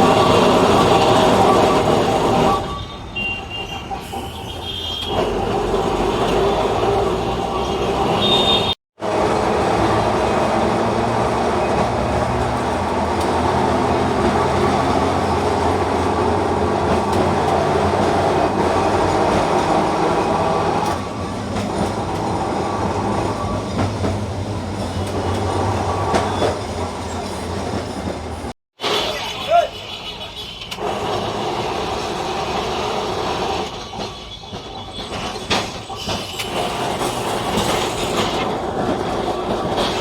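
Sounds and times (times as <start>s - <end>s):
electric tram running on rails: 0.0s - 40.0s.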